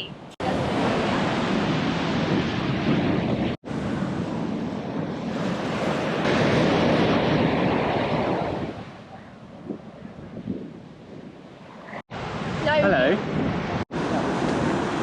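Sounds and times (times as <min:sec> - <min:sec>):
sea surf washing on beach: 0:00.0 - 0:15.0
wind buffeting microphone: 0:00.0 - 0:15.0.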